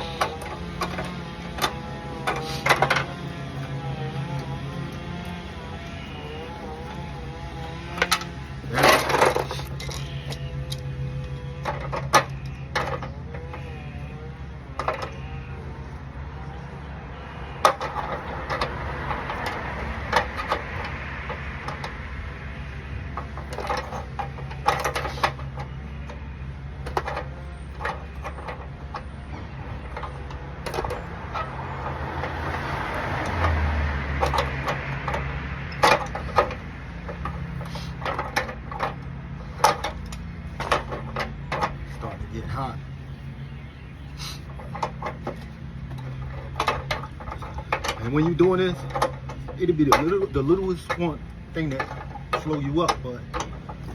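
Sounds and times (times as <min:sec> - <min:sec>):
hand tools knocking on metal: 0:00.0 - 0:13.6, 0:14.4 - 0:15.2, 0:17.6 - 0:43.3, 0:44.4 - 0:53.9.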